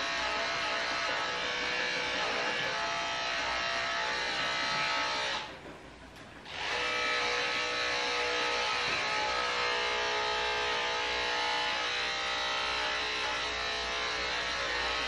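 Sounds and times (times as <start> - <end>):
electric clippers buzzing: 0.0 - 5.5, 6.4 - 15.0.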